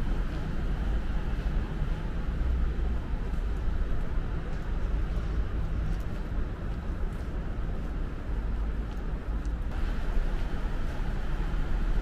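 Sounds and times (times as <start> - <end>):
low outdoor background rumble: 0.0 - 12.0.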